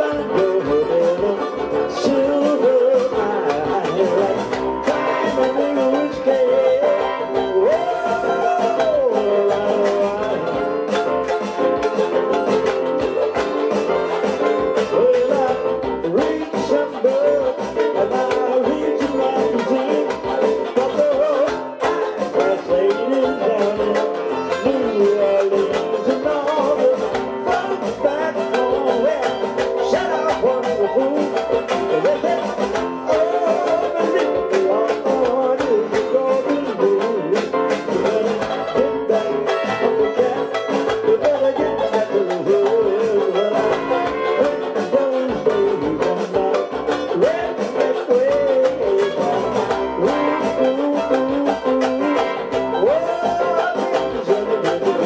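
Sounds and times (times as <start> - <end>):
man singing into microphone: 0.0 - 11.0, 14.3 - 55.0
banjo strummed briskly: 0.0 - 55.0.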